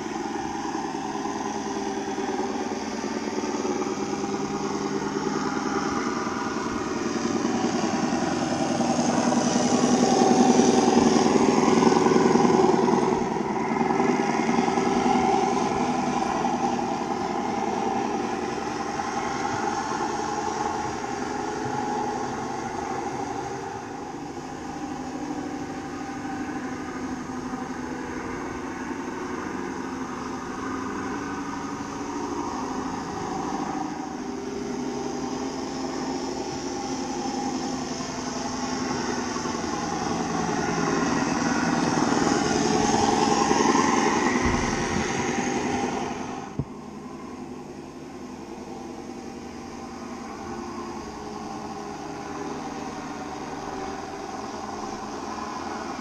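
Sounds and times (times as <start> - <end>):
simulated diesel engine from small speaker: 0.0 - 56.0.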